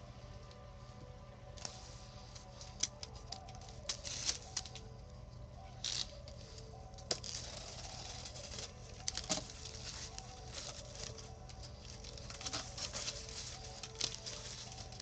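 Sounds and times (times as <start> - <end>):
cardboard and packing rustling: 0.5 - 15.0.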